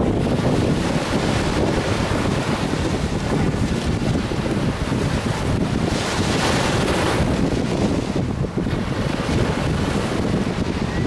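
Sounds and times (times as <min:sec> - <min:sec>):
small waves washing up shore: 0:00.0 - 0:11.0
wind buffeting microphone: 0:00.0 - 0:11.0.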